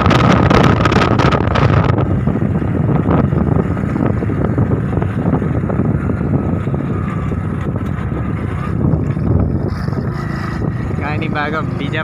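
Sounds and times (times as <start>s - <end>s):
engine low rumble: 0.0s - 12.0s
tyres on road: 0.0s - 12.0s
wind buffeting microphone: 0.0s - 12.0s.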